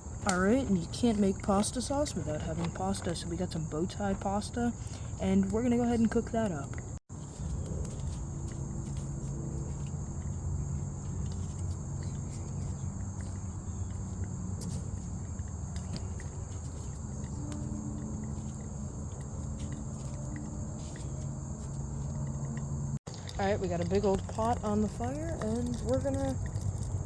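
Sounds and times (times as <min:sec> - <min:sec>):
insects chirring: 0:00.0 - 0:27.0
low steady hum: 0:00.0 - 0:27.0.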